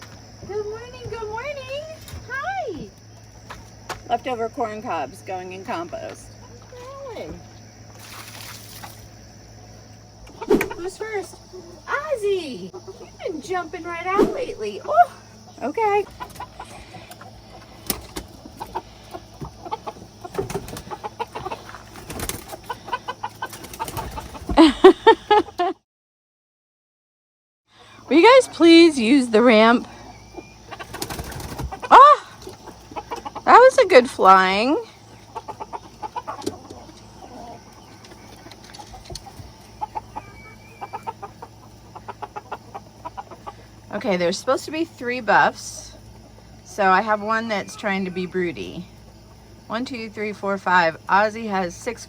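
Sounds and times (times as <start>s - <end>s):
chickens clucking: 0.0s - 25.8s, 27.9s - 52.0s.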